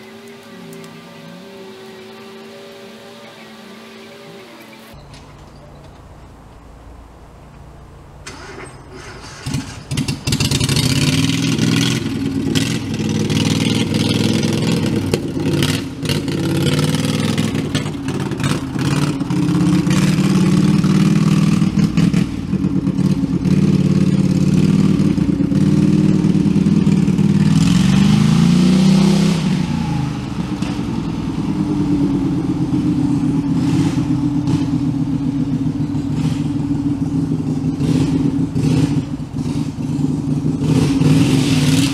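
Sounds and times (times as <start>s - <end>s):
small tractor engine running: 7.5s - 41.9s.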